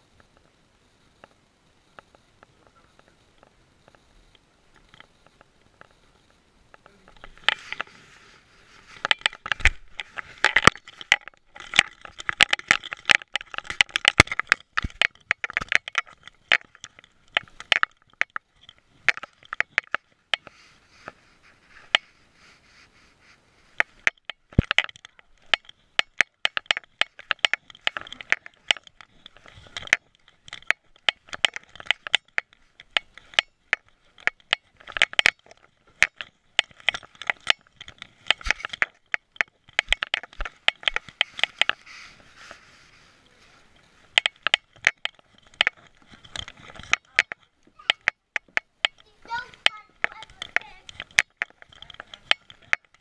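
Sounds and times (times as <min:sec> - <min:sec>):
camera rubbing against collar and fur: 0:04.8 - 0:47.5.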